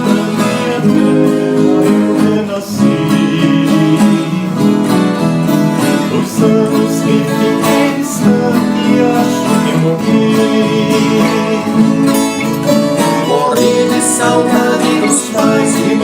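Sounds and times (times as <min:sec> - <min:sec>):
acoustic guitars strummed and plucked: 0:00.0 - 0:16.0.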